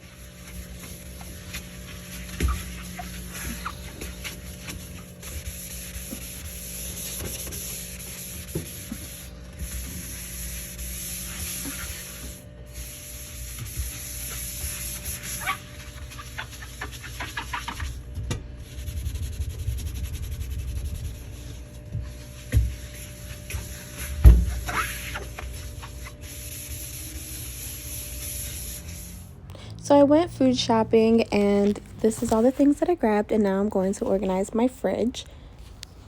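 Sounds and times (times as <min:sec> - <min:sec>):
rubbing and wiping surfaces: 0:00.0 - 0:29.2
faint steady hum: 0:00.0 - 0:36.0.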